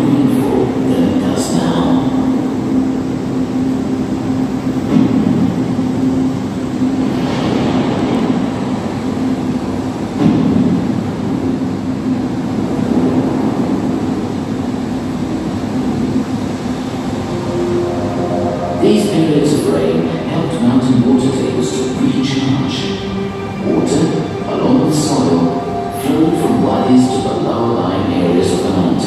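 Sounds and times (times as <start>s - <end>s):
low hum: 0.0s - 29.0s
rumbling soundtrack over speakers: 0.0s - 29.0s.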